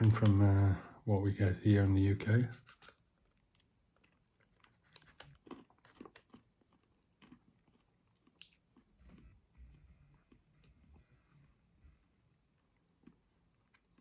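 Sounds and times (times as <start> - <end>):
person chewing crunchy chocolate: 2.6 - 14.0.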